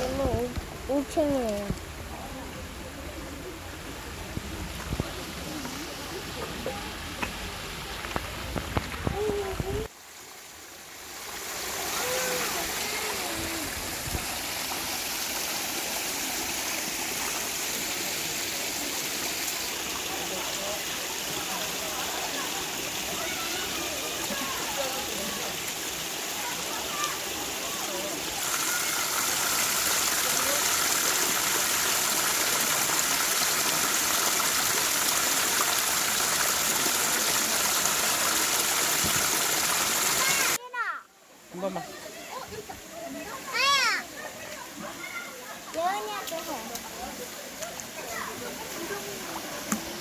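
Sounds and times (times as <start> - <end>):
stream water rushing: 0.0 - 40.6, 41.3 - 50.0.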